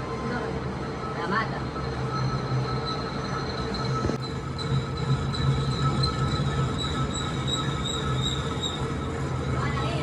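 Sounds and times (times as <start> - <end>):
high-pitched whine: 0.0 - 10.0.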